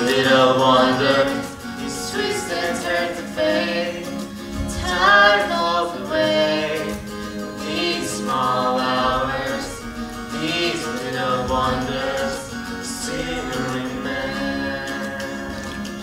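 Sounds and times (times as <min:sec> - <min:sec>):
acoustic guitar: 0:00.0 - 0:16.0
man and woman singing duet: 0:00.0 - 0:16.0.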